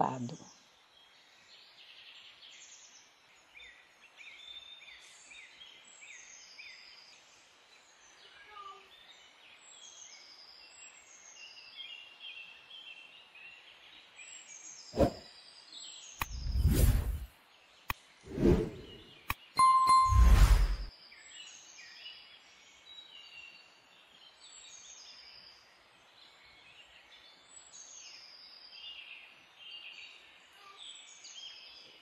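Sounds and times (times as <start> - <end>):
small birds chirping: 0.0 - 20.1, 21.0 - 32.0.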